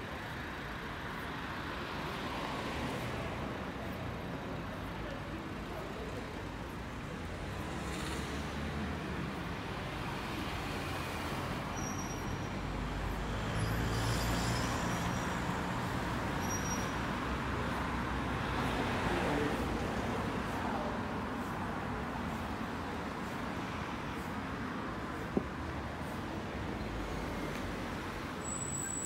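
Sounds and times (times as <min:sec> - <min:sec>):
hum of passing cars: 0:00.0 - 0:29.0.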